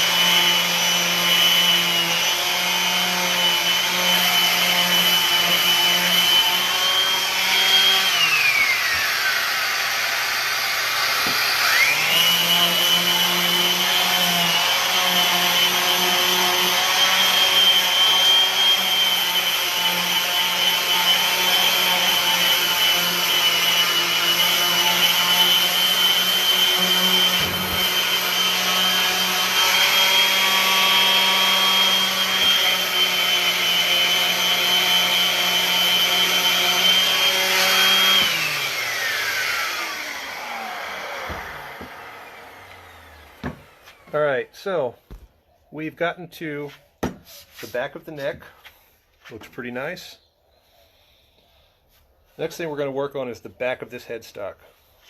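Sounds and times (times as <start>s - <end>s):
power tool motor whining: 0.0s - 44.2s.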